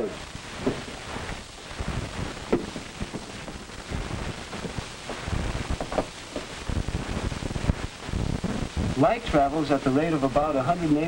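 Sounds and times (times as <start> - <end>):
low thumps: 0.0 - 9.2
film soundtrack hiss and crackle: 0.0 - 11.0.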